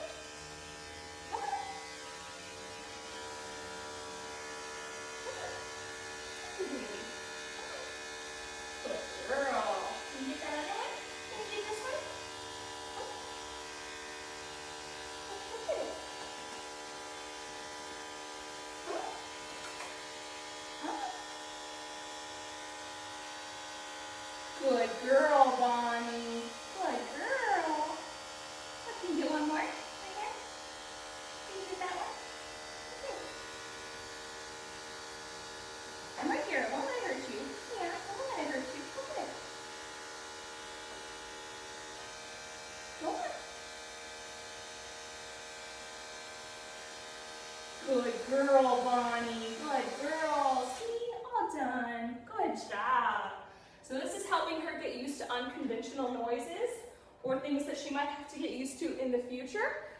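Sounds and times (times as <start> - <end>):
electric clippers buzzing: 0.0 - 51.6.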